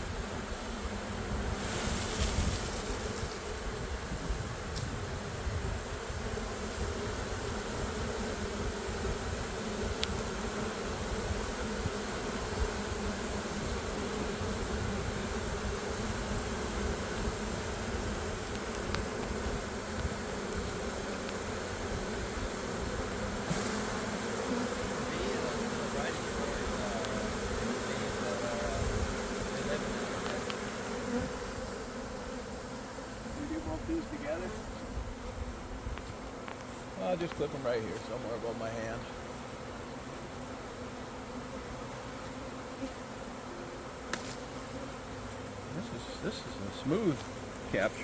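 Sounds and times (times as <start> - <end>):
bees buzzing: 0.0 - 48.0.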